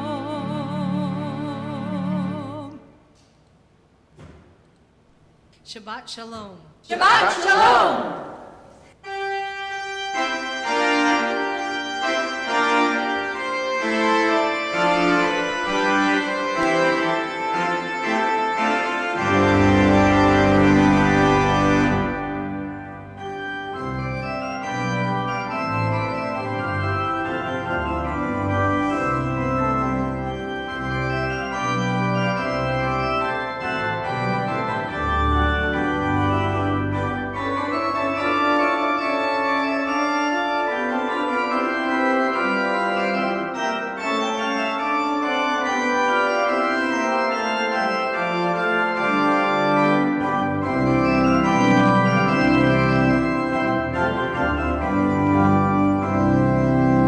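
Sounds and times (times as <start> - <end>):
organ playing chords: 0.0 - 3.1, 6.9 - 57.0.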